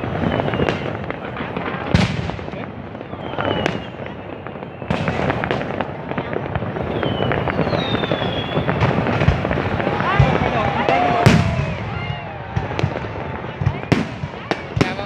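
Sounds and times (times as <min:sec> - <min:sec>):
fireworks bangs: 0:00.0 - 0:15.0
fireworks crackling: 0:00.0 - 0:15.0
whistling rockets: 0:00.0 - 0:15.0.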